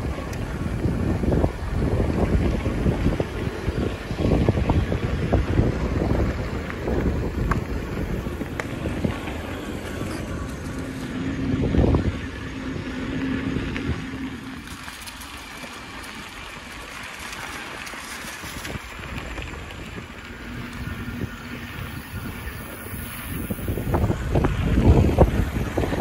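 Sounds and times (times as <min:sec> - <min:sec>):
bicycle tyres on gravel: 0:00.0 - 0:26.0
low steady hum: 0:00.0 - 0:26.0
wind over microphone: 0:00.0 - 0:26.0.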